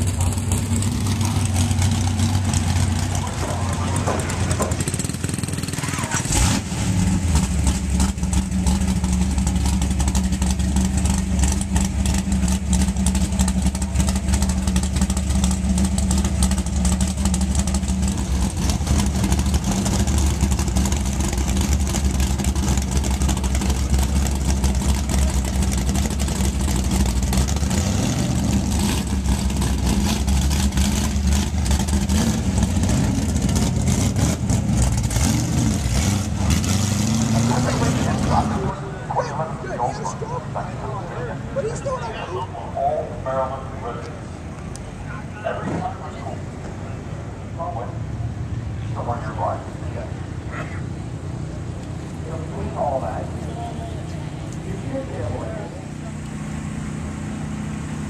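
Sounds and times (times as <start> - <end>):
car engine starting and idling: 0.0 - 58.0.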